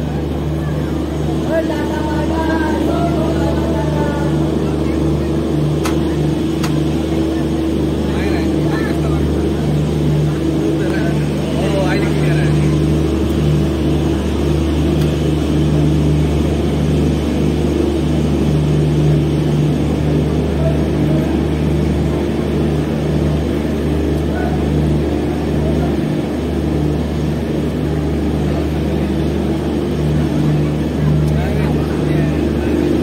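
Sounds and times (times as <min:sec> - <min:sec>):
train droning hum inside coach: 0:00.0 - 0:33.0.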